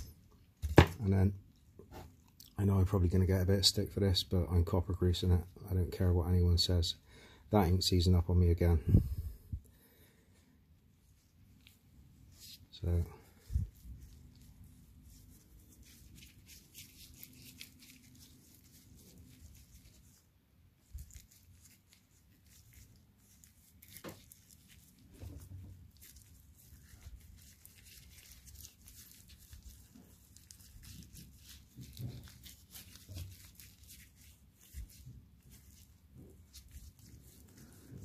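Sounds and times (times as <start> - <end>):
rubber gloves rustling: 0.0 - 6.9, 7.6 - 38.0.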